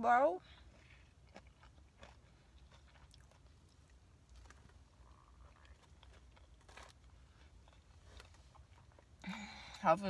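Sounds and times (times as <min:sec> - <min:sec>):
faint chewing: 0:00.4 - 0:09.8.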